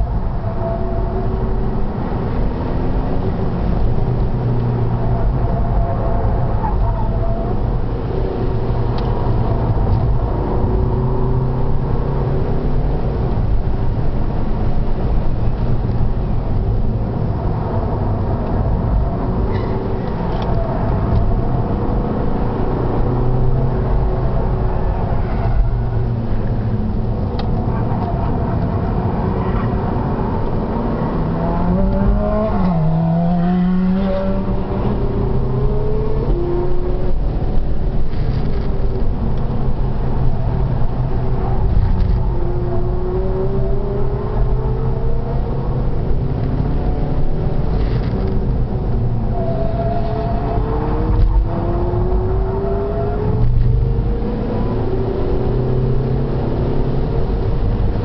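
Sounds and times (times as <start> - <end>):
road and wind rumble: 0.0 - 58.0
car engine accelerating: 7.5 - 58.0.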